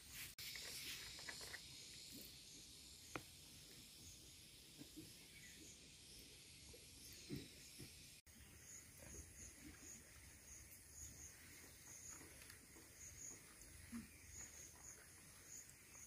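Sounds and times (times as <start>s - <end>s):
faint outdoor background hiss: 0.0s - 16.0s.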